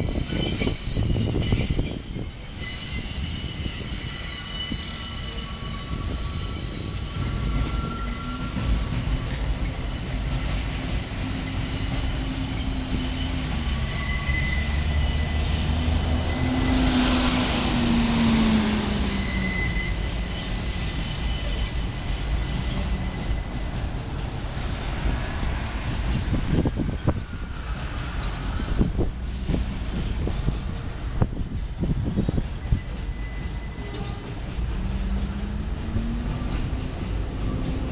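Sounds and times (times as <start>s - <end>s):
train wheels squealing: 0.0s - 31.2s, 31.8s - 37.9s
train low rumble: 0.0s - 37.9s.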